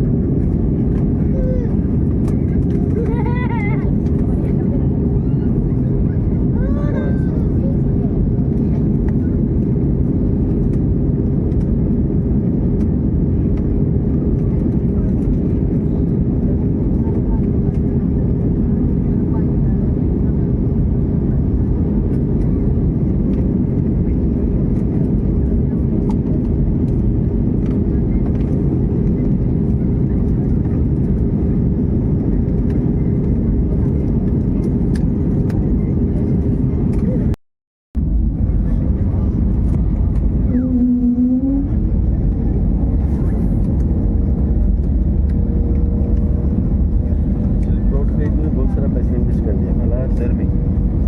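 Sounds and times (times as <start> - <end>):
airliner cabin engine rumble: 0.0 - 37.4, 38.0 - 51.0.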